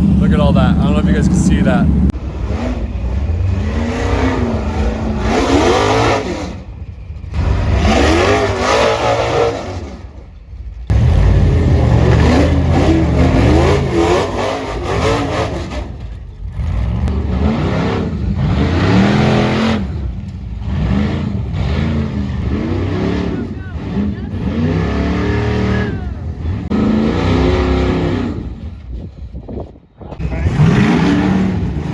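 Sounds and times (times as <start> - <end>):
buggy engines revving: 0.0 - 31.9.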